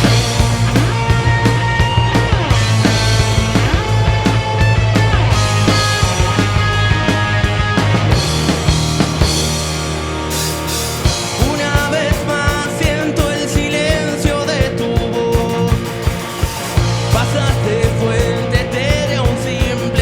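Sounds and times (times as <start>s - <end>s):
live rock band playing: 0.0s - 20.0s
vocal or lead melody: 0.0s - 20.0s.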